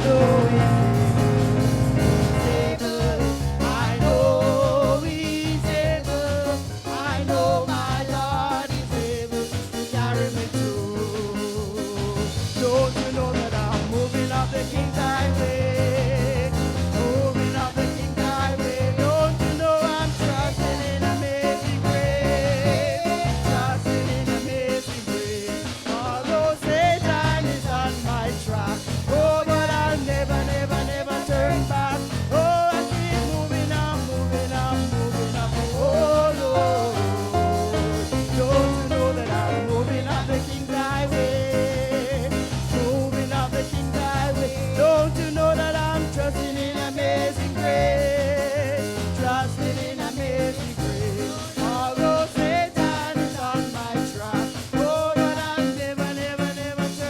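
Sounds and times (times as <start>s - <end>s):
band playing a steady beat: 0.0s - 57.0s
lead singer with vibrato: 0.0s - 57.0s.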